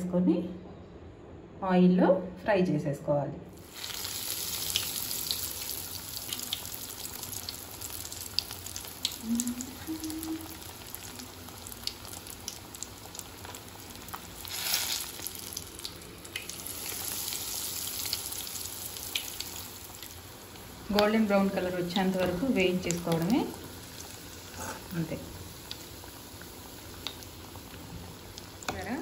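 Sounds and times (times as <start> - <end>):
bread rolls deep-frying in oil: 3.6 - 29.0
oil popping and crackling: 3.6 - 29.0.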